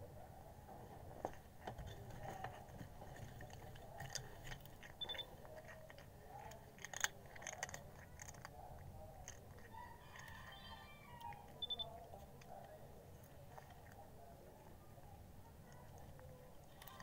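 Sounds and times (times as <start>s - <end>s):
cat crunching chips: 2.0s - 14.7s, 15.5s - 17.0s.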